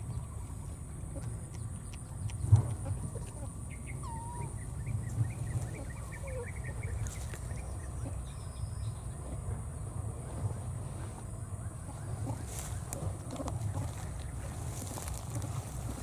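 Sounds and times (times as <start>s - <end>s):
wind and microphone handling rumble: 0.0s - 16.0s.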